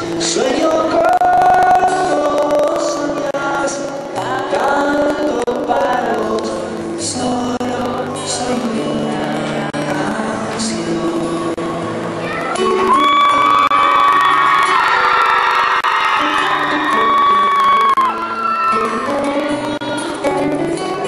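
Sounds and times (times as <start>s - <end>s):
man singing a slow ballad: 0.0s - 12.0s, 16.0s - 21.0s
acoustic guitar: 0.0s - 21.0s.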